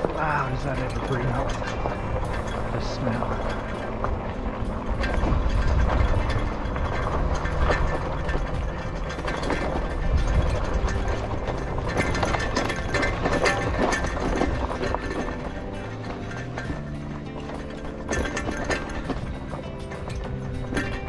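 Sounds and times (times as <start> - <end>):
bike clicking and rattling: 0.0 - 21.0
steady low rumble: 0.0 - 21.0.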